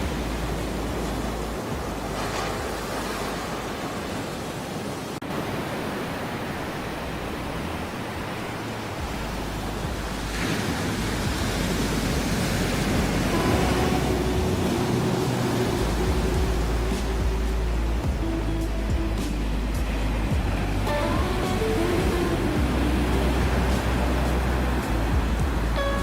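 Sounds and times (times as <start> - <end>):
ocean waves washing: 0.0 - 26.0.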